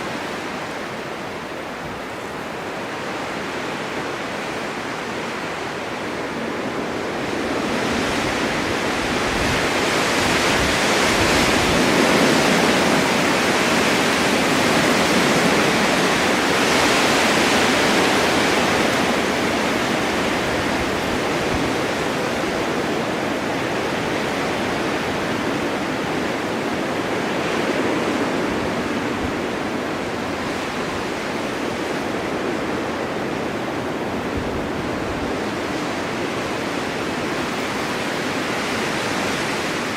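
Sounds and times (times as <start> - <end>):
snowstorm wind blowing: 0.0 - 39.9.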